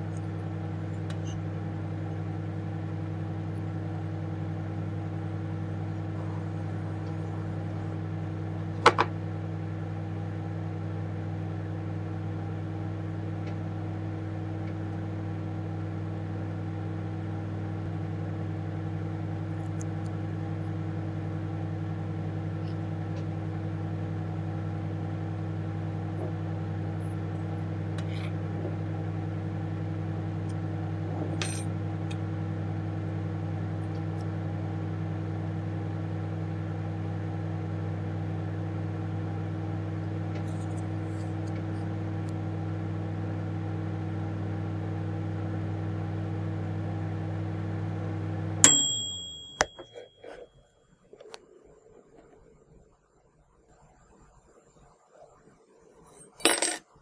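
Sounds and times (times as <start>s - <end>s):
electrical hum: 0.0s - 50.5s.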